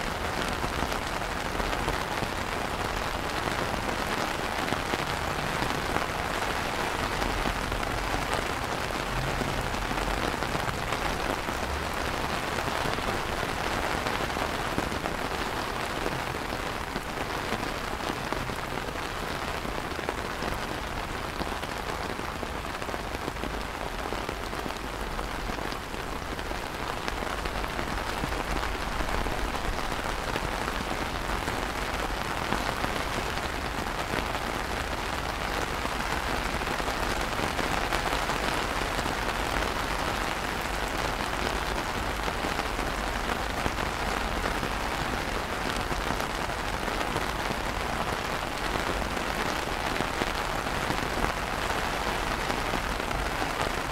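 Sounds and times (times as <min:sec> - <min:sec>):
rain on stone paving and puddles: 0:00.0 - 0:53.9.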